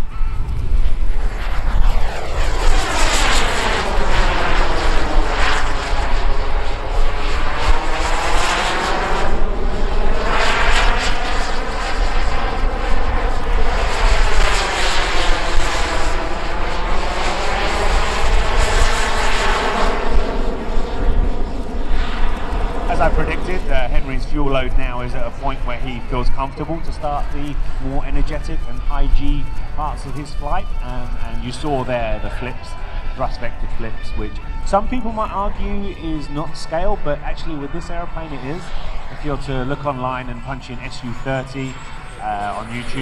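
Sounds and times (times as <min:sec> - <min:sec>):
model jet turbine roar: 0:00.0 - 0:43.0.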